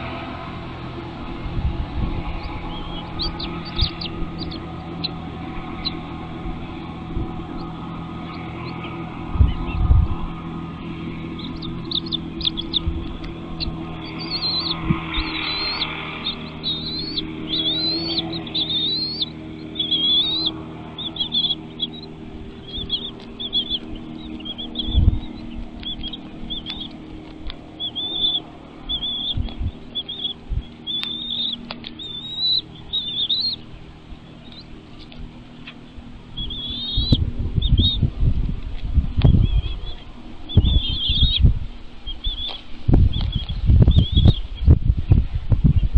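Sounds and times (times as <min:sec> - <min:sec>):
nestlings chirping: 0:00.0 - 0:44.8.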